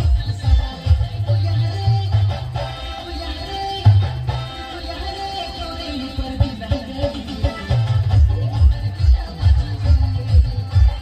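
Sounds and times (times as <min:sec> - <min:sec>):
music with drums and held notes: 0:00.0 - 0:11.0.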